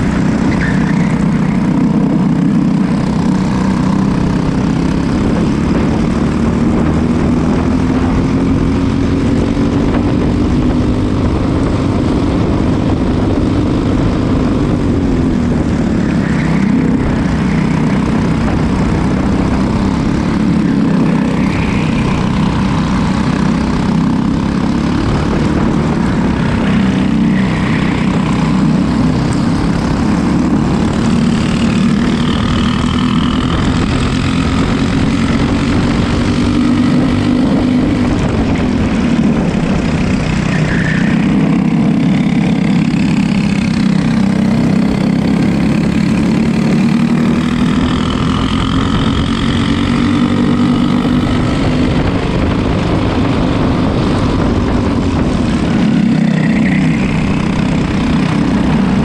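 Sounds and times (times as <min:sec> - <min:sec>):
kart engine buzzing: 0:00.0 - 0:59.0
wind and road noise: 0:00.0 - 0:59.0.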